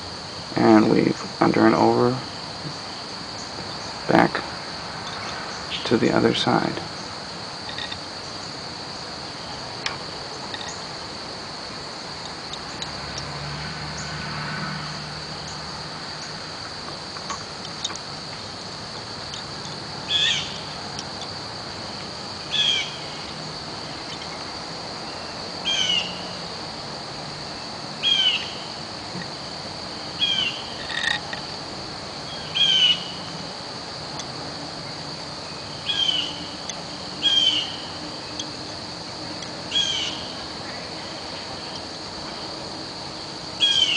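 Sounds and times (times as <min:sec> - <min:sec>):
insect drone: 0:00.0 - 0:43.9.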